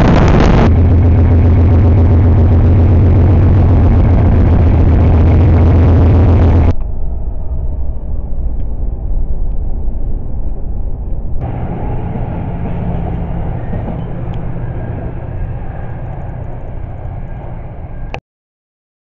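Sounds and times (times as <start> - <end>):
car road rumble: 0.0 - 18.2
train engine hum: 0.0 - 18.2
train rail noise: 0.0 - 18.2.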